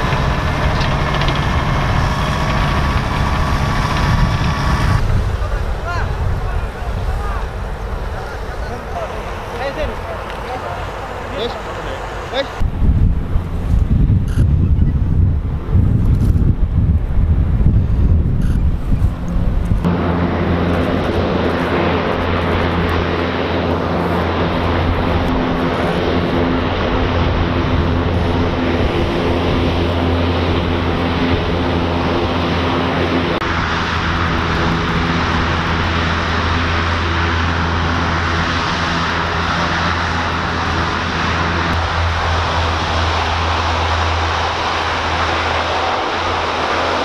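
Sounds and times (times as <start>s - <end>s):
hovercraft turbines droning: 0.0s - 47.0s
rushing roar of air: 0.0s - 47.0s.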